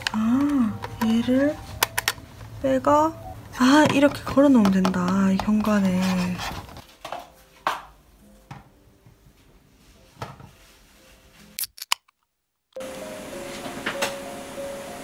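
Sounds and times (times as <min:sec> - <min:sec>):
soft background music: 0:00.0 - 0:11.9, 0:12.8 - 0:15.0.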